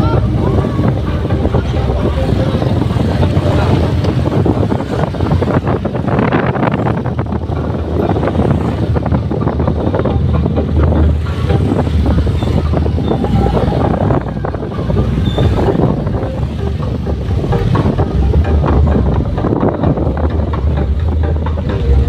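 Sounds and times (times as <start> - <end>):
motorbikes passing: 0.0 - 22.0
wind rumbling on microphone: 0.0 - 22.0.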